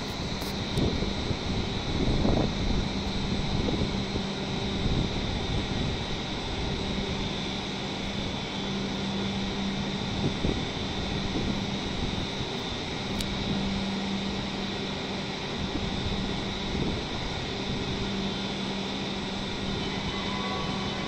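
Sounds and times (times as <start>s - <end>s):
train equipment whirring hum: 0.0s - 21.0s.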